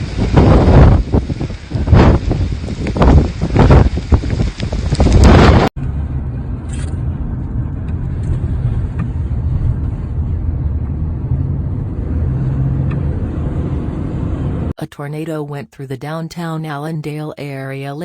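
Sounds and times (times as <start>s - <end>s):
wind gust noise: 0.0s - 14.7s
car engine rumble: 0.0s - 14.8s.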